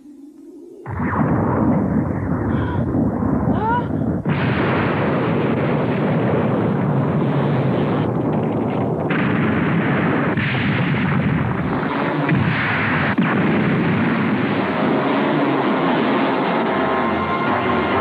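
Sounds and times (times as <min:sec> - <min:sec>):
rock and earth rumbling: 0:00.8 - 0:16.7.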